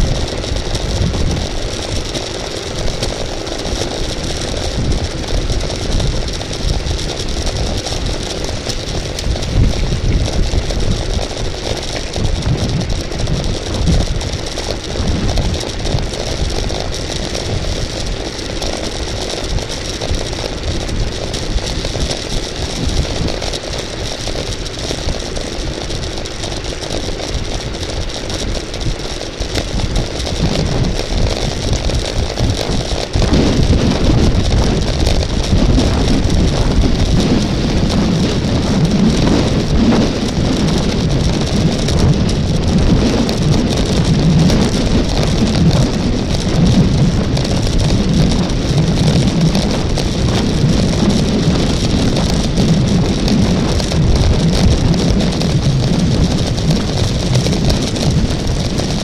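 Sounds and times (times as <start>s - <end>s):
bicycle road noise: 0.0s - 59.0s
wind on microphone: 0.0s - 59.0s.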